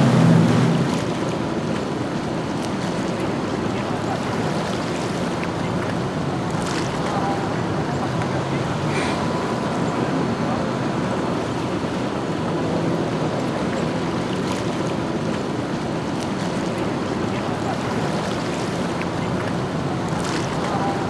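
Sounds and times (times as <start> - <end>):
motorboat engine running: 0.0 - 21.0
water noise: 0.0 - 21.0.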